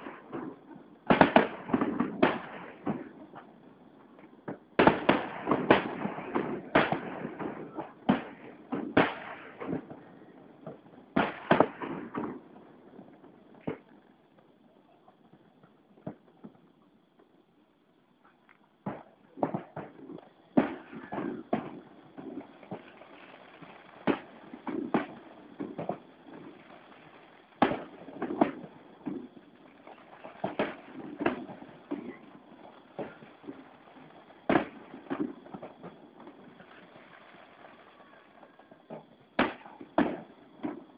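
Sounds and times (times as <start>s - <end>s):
fireworks bangs with echo: 0.0s - 3.5s, 4.4s - 12.6s, 18.8s - 40.9s.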